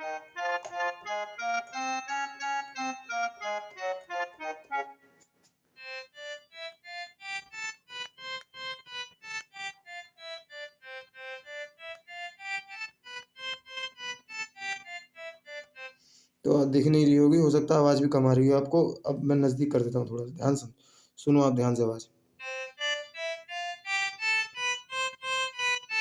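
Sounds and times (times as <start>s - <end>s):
harmonium app melody: 0.0s - 18.0s, 22.4s - 26.0s
mini keyboard melody: 0.0s - 20.6s, 22.4s - 26.0s.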